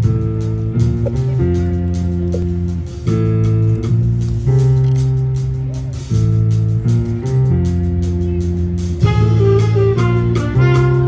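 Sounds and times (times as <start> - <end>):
jazz band playing: 0.0 - 11.0.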